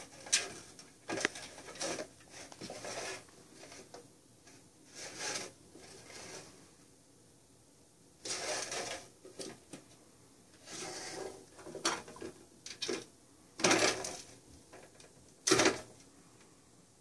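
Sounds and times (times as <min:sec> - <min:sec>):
plastic toy sliding and rattling: 0:00.0 - 0:06.7, 0:08.2 - 0:09.8, 0:10.6 - 0:16.0.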